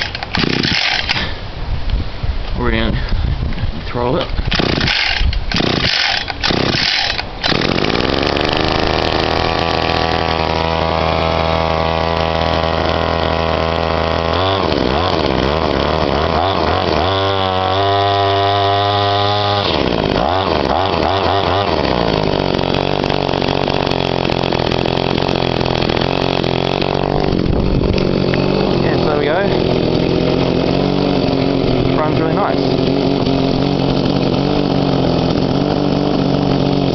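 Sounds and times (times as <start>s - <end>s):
line trimmer engine running: 0.0s - 1.4s, 4.4s - 36.9s
line trimmer pull-start cranking: 0.0s - 1.4s, 4.3s - 36.9s.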